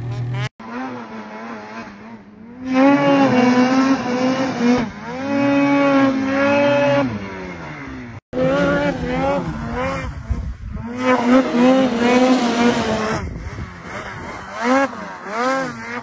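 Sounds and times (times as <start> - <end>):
snowmobile engines revving: 0.0 - 16.0.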